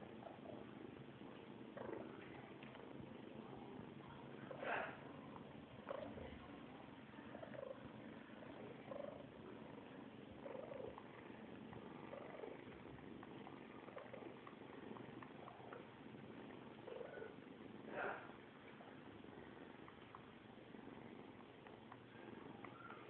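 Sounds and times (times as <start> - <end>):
cats purring: 0.0 - 23.0.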